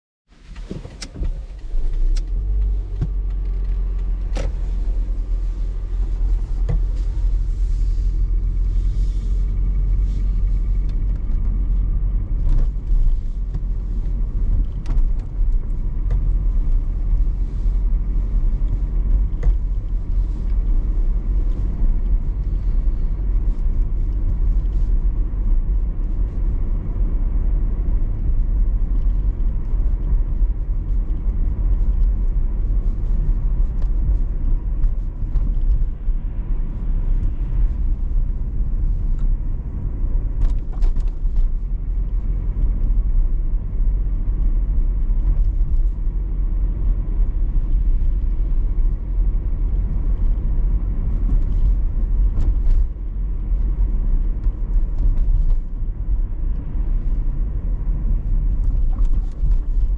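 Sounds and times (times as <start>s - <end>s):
car engine and road noise: 0.3s - 59.9s.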